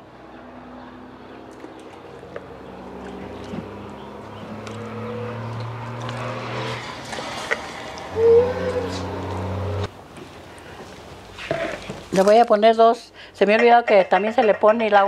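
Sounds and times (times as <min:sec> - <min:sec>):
engine hum: 0:00.0 - 0:12.1.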